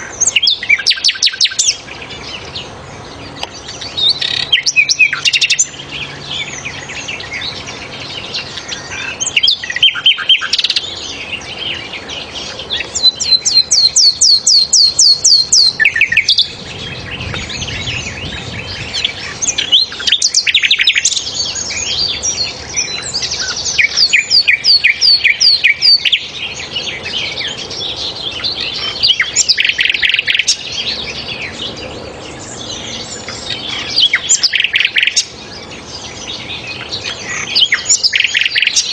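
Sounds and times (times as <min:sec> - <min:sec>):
flycatcher singing whistles and trills: 0:00.0 - 0:38.9.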